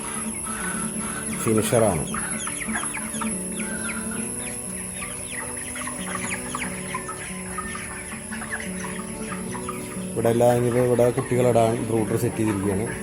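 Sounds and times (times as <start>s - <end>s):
young chickens peeping and clucking: 0.0s - 13.0s.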